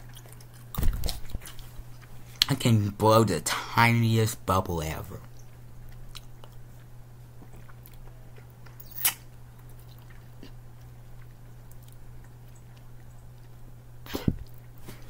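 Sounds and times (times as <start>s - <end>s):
person chewing gum: 0.0s - 2.6s, 5.2s - 15.0s.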